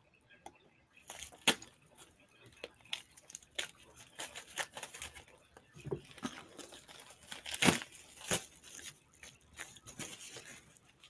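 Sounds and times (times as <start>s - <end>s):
packaging ripping and rustling: 1.0s - 5.3s, 6.0s - 11.0s.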